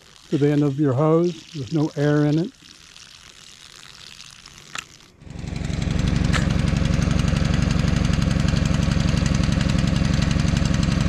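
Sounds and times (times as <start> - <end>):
pressure washer engine running: 0.0 - 11.0.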